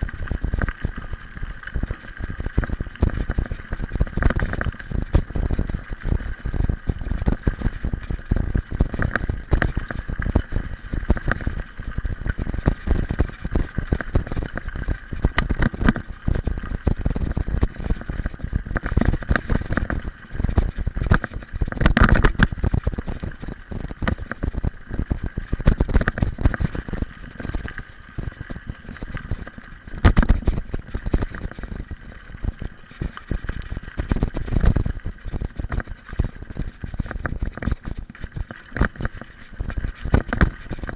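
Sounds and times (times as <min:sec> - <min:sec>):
bike rattling and knocking: 0:00.0 - 0:40.9.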